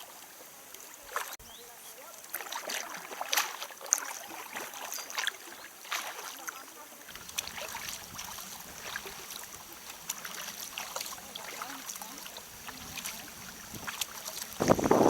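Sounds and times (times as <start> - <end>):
paddle splashes: 0.0 - 15.0
water trickling around kayak: 0.0 - 15.0.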